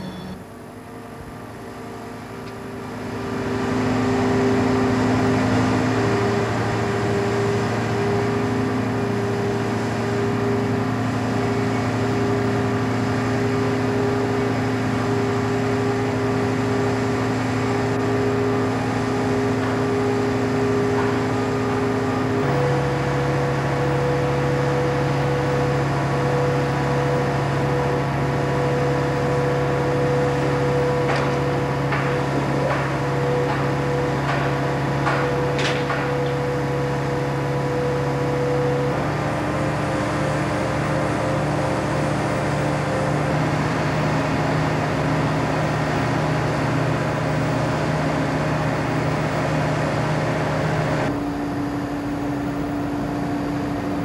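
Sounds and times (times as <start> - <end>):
crane diesel engine running: 0.0 - 54.0.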